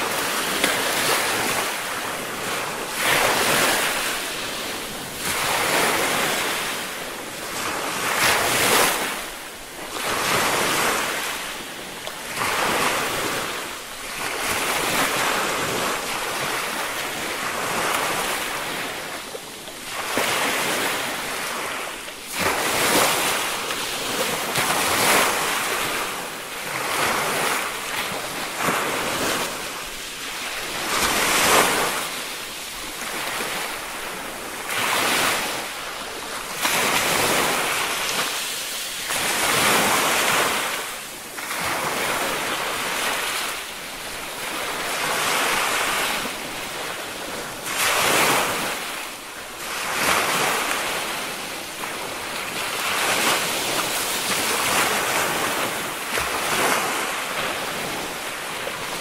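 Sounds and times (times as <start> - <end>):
small waves washing up beach: 0.0 - 59.0.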